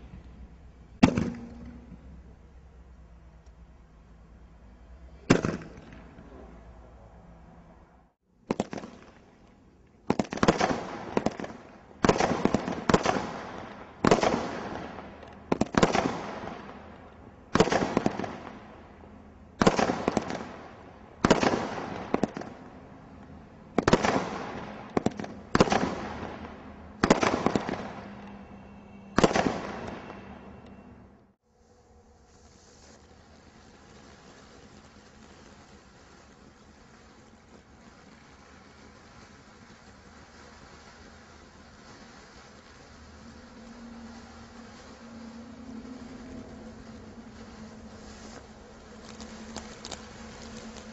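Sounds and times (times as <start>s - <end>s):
fireworks bangs with echo: 0.0s - 2.8s, 5.1s - 6.8s, 8.4s - 31.0s, 32.9s - 50.9s.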